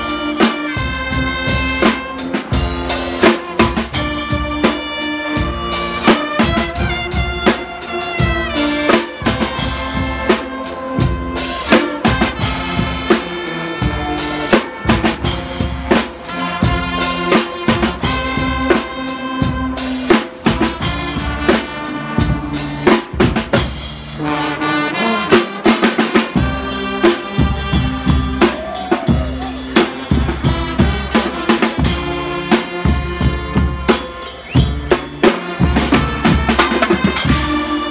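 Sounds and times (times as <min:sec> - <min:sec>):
drum kit steady beat: 0:00.0 - 0:24.4, 0:25.3 - 0:37.9
brass instruments: 0:00.0 - 0:37.9.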